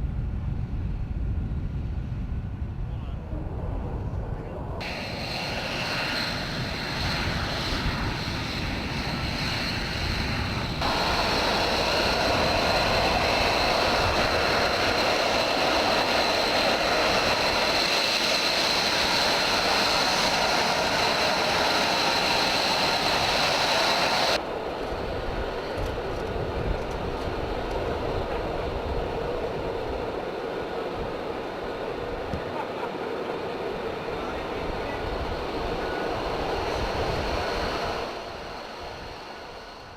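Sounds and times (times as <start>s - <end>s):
jet engine roaring and whining: 3.1s - 39.9s.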